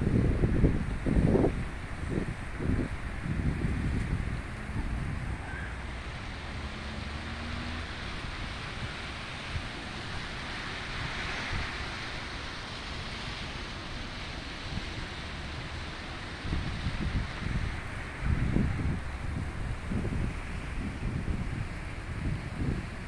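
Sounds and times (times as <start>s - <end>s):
steady rain hissing: 0.0s - 23.0s
wind rumbling on microphone: 0.0s - 23.0s.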